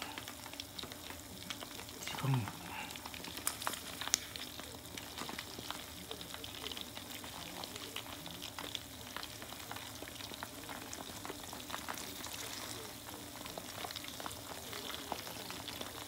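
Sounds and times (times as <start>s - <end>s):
chicken deep-frying in oil: 0.0s - 16.0s
crackling pops: 0.0s - 16.0s.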